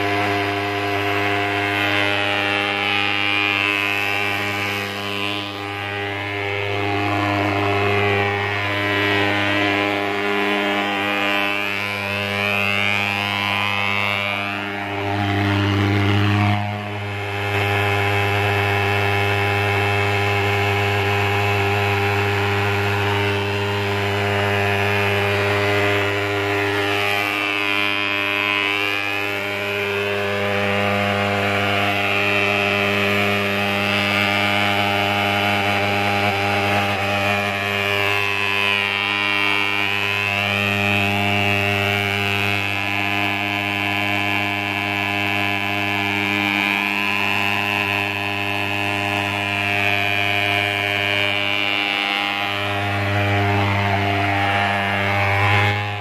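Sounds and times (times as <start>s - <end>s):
thermal fogger engine droning: 0.0s - 56.0s.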